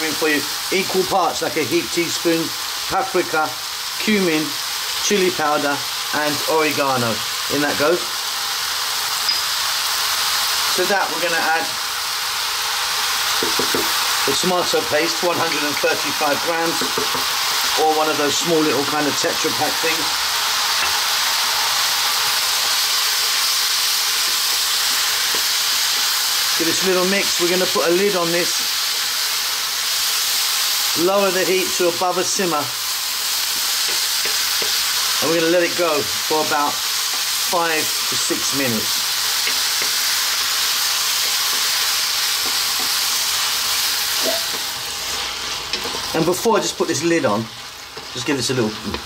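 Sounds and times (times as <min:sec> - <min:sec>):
vegetables sizzling in a pan: 0:00.0 - 0:49.0.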